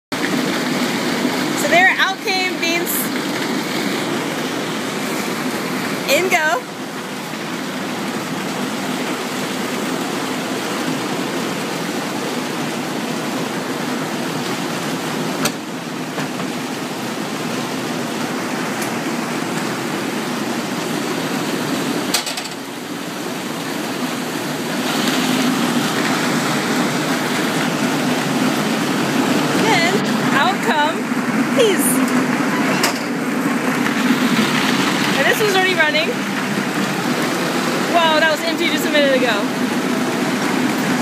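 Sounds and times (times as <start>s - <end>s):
hulling machine humming and rattling: 0.2s - 41.0s.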